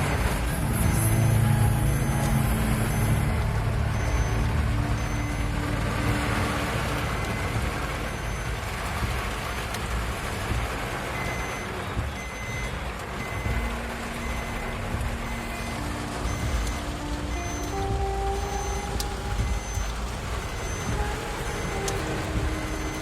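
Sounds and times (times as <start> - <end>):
faint high-pitched beeps: 0.0 - 8.6, 11.1 - 23.0
vehicle engine running: 0.0 - 23.0.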